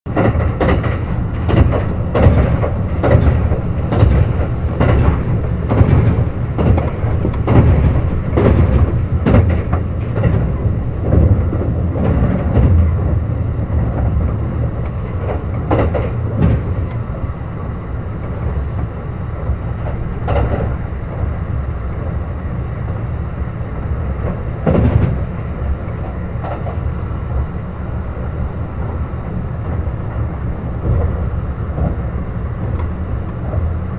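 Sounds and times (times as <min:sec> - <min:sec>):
wheels clattering over rail joints: 0:00.1 - 0:22.2, 0:23.9 - 0:33.9
train wheels rumbling on rail: 0:00.1 - 0:33.9.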